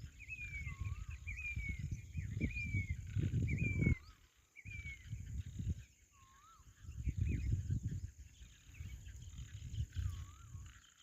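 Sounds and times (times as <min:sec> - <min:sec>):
birds whistling: 0:00.0 - 0:11.0
wind buffeting microphone: 0:00.0 - 0:11.0.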